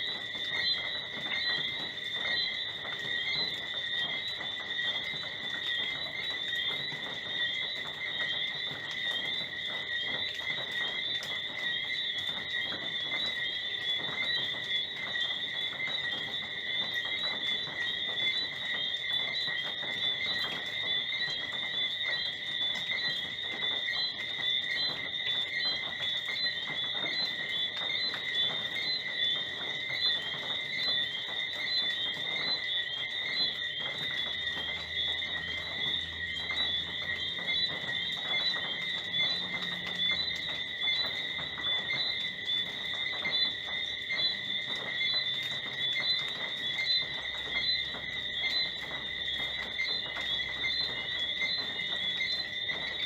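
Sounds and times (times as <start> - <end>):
frogs and insects trilling: 0.0 - 53.0.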